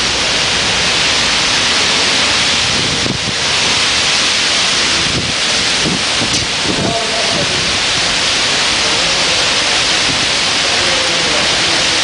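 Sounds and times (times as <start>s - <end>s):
wind and rain rushing: 0.0s - 12.0s.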